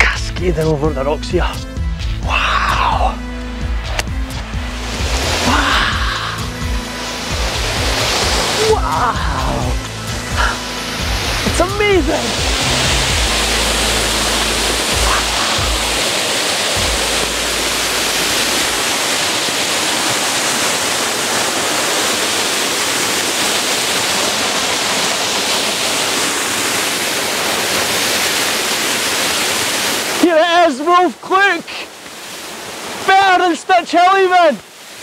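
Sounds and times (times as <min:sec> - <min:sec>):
waterfall pouring over rocks: 0:02.1 - 0:35.0.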